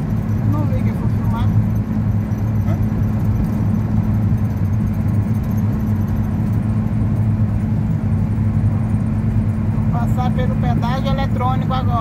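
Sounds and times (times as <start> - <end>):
road noise: 0.0 - 12.0
van engine droning: 0.0 - 12.0.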